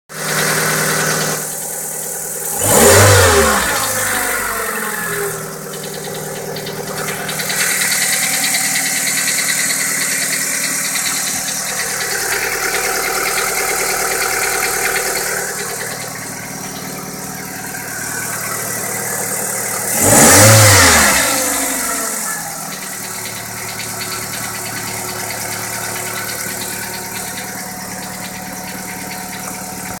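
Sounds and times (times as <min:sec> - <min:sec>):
car engine idling and revving: 0:00.1 - 0:30.0.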